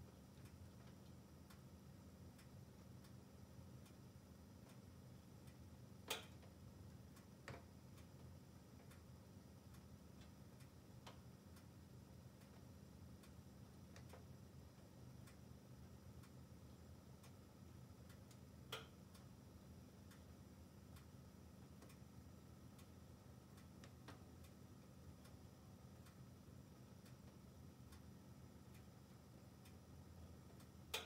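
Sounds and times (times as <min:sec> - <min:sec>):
wood crackling in stove: 0:00.0 - 0:31.0.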